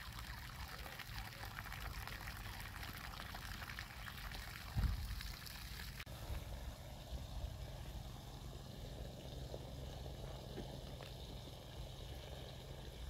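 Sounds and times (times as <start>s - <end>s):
hose water splashing: 0.0s - 13.0s.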